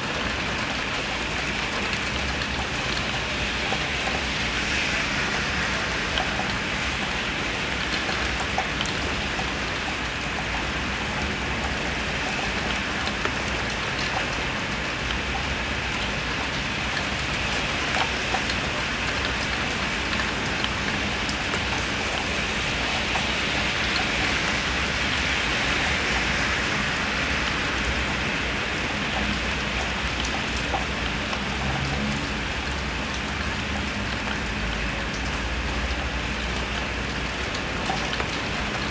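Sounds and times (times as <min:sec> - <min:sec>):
heavy rain hissing: 0:00.0 - 0:38.9
raindrops hitting surfaces: 0:00.0 - 0:38.9.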